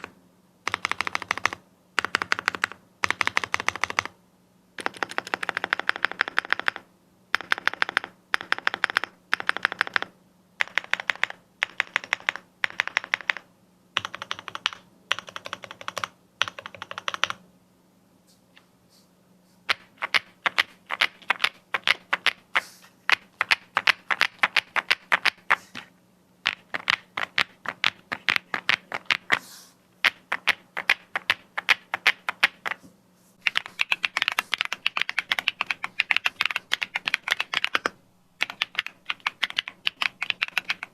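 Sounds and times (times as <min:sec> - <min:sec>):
mechanical keyboard typing: 0:00.0 - 0:04.2, 0:04.8 - 0:17.4, 0:19.7 - 0:25.6, 0:26.4 - 0:29.4, 0:30.0 - 0:32.8, 0:33.4 - 0:40.9
faint steady hum: 0:00.0 - 0:40.9.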